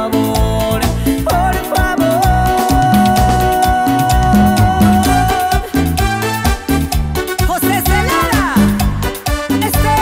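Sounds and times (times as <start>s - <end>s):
bass and percussion rhythm: 0.0s - 10.0s
electronic keyboard playing: 0.0s - 10.0s.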